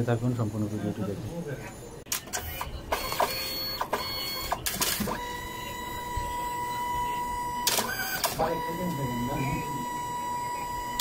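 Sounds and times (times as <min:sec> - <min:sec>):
printer whine: 0:00.0 - 0:11.0.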